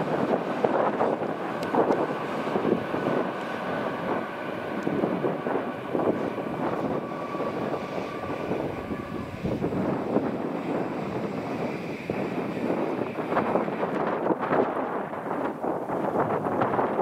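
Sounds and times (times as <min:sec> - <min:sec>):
faint train whine: 0:00.0 - 0:17.0
train wheels rumbling on rail: 0:00.0 - 0:17.0.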